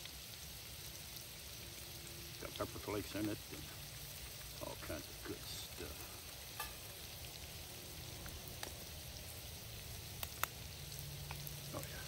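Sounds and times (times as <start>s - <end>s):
food sizzling in hot oil: 0.0s - 12.0s
oil popping: 0.0s - 12.0s.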